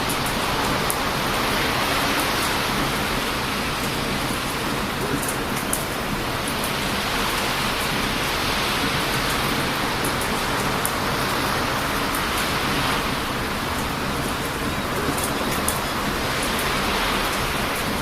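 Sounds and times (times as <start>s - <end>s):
heavy surf on a beach: 0.0s - 18.0s.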